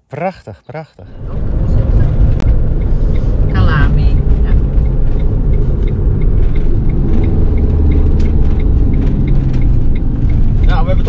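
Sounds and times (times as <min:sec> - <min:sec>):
van engine and road noise: 0:00.2 - 0:11.0
faint ticking: 0:01.3 - 0:11.0.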